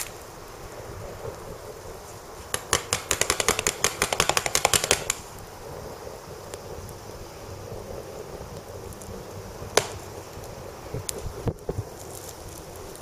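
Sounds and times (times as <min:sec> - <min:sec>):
charcoal fire crackling: 0:00.0 - 0:13.0
faint steady hiss: 0:00.0 - 0:13.0.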